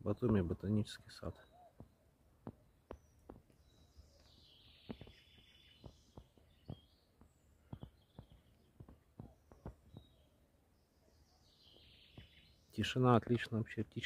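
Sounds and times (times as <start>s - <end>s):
faint birdsong: 0.0s - 14.0s.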